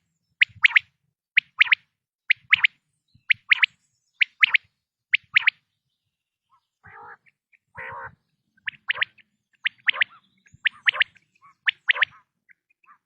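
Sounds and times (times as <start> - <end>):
quail calling: 0.4 - 5.6, 6.5 - 13.0.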